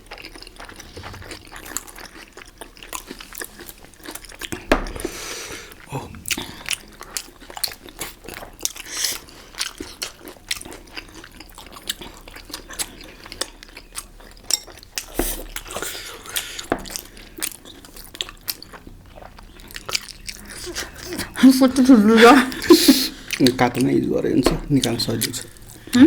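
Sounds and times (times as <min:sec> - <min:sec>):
wet chewing and mouth smacks: 0:00.0 - 0:21.9, 0:22.5 - 0:26.0.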